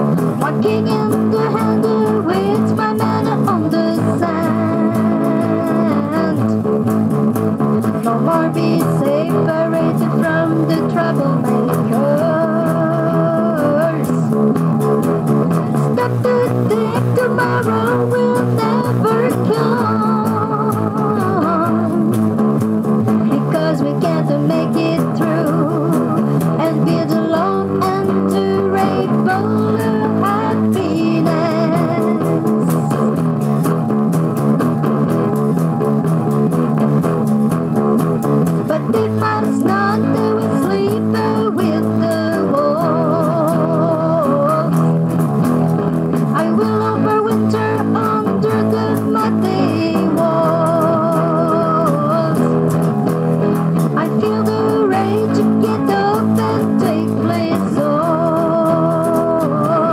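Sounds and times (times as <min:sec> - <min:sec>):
bass guitar: 0:00.0 - 0:59.9
electric guitar: 0:00.0 - 0:59.9
wavering lead melody: 0:00.0 - 0:59.9.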